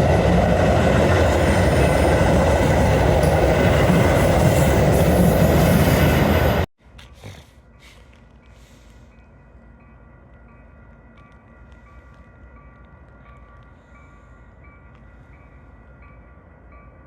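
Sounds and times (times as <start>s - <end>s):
train running by: 0.0s - 6.7s, 7.6s - 17.0s.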